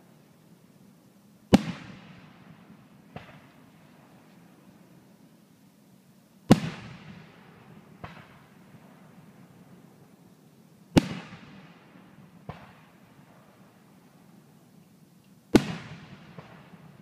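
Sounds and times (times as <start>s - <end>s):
faint firework report: 1.5s - 5.3s, 6.4s - 17.0s.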